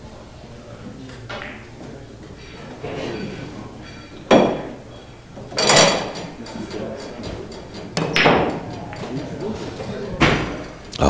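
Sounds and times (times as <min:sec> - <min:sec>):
pool balls clacking: 0:00.0 - 0:11.0.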